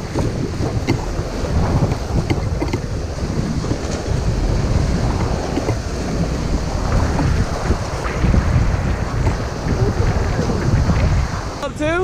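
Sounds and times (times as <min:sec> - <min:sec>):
small waves breaking: 0:00.0 - 0:11.7
wind buffeting microphone: 0:00.0 - 0:12.0.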